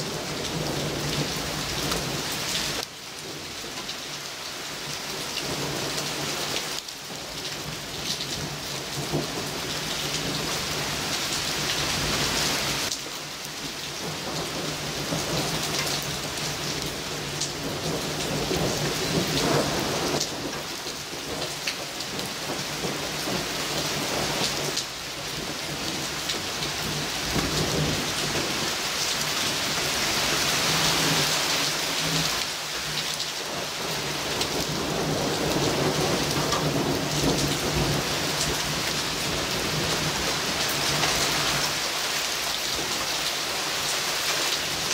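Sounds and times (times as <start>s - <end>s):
heavy rain pouring on leaves: 0.0s - 44.9s.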